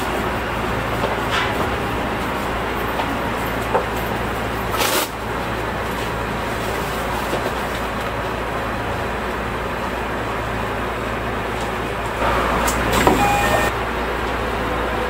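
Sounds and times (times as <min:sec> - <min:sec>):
subway train cab hum and rumble: 0:00.0 - 0:15.0.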